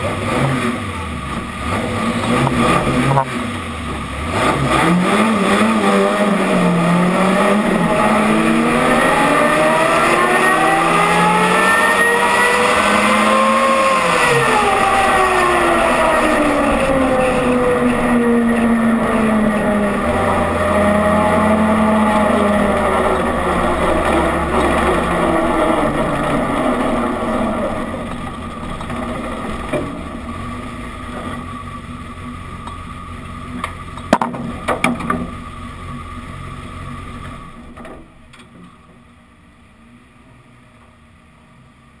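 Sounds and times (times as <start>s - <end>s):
race car engine at low revs: 0.0s - 42.0s.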